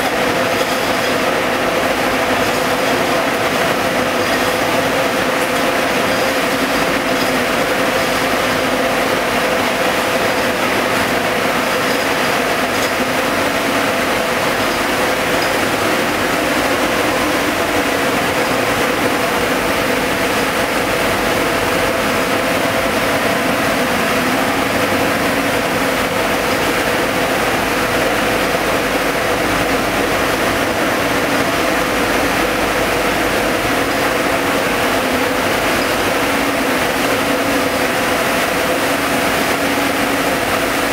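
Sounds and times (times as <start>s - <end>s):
spinning machines mechanical din: 0.0s - 40.9s.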